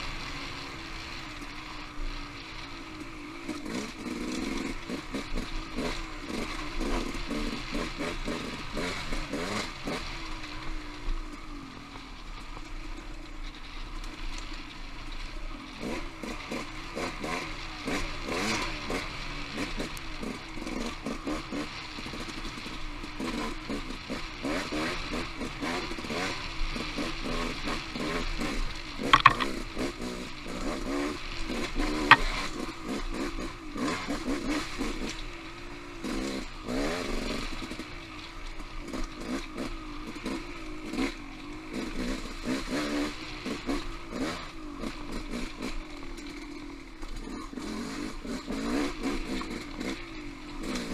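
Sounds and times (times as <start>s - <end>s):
clatter of bike and rocks: 0.0s - 50.9s
motorcycle engine revving: 0.0s - 50.9s.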